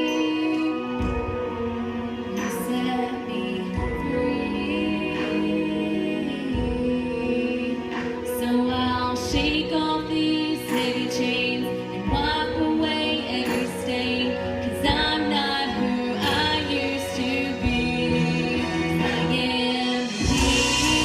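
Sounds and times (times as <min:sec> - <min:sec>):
instrumental backing: 0:00.0 - 0:21.0
woman singing: 0:00.0 - 0:21.0.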